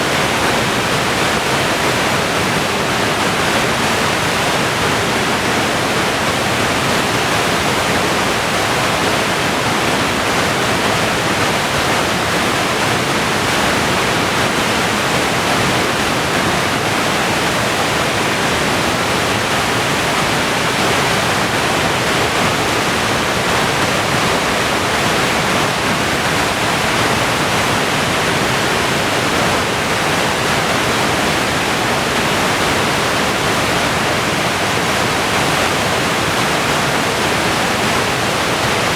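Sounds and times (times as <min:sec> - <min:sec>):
whitewater rapids rushing: 0:00.0 - 0:38.9.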